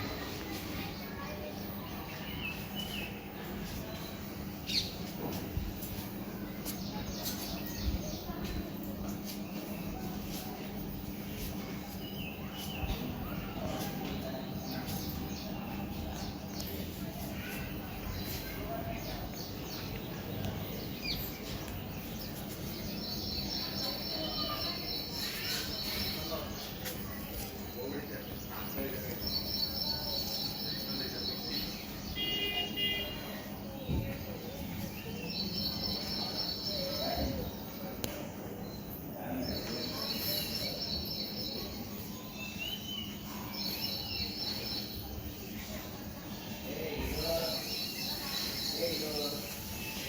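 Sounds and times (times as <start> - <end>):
birds chirping: 0.0 - 50.0
low outdoor noise: 0.0 - 50.0.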